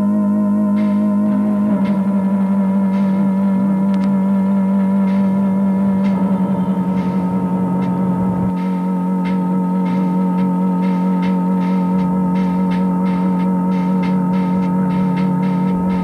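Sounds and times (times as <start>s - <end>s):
low drone: 0.0s - 16.0s
wavering electronic tone: 0.0s - 16.0s.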